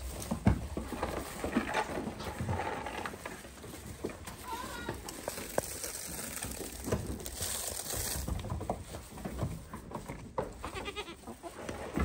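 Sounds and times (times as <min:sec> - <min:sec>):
goats crunching corn: 0:00.0 - 0:12.0.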